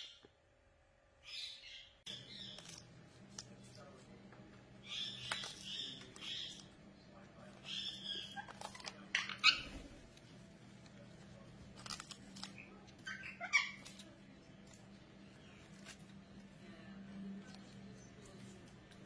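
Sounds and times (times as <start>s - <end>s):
parakeet tearing leafy greens: 2.1s - 19.0s.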